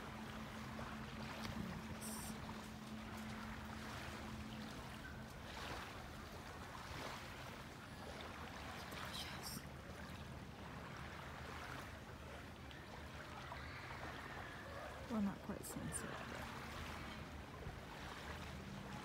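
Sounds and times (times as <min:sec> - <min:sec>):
faint outdoor background noise: 0:00.0 - 0:19.0.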